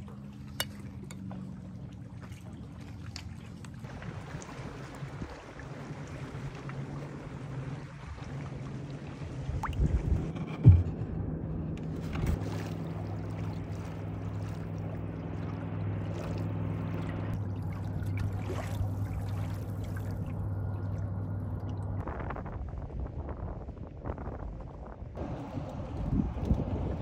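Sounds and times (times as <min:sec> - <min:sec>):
water lapping against kayak hull: 0:00.0 - 0:22.1, 0:25.2 - 0:27.0
low engine hum: 0:00.0 - 0:27.0.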